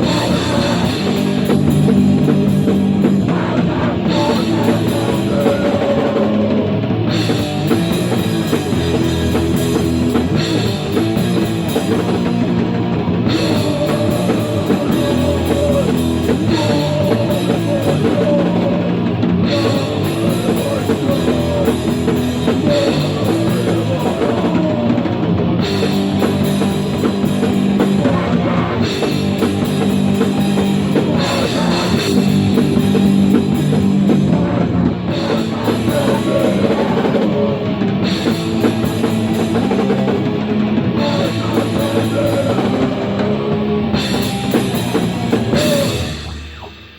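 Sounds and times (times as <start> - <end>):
drum kit: 0.0 - 46.9
heavy rock band: 0.0 - 46.9.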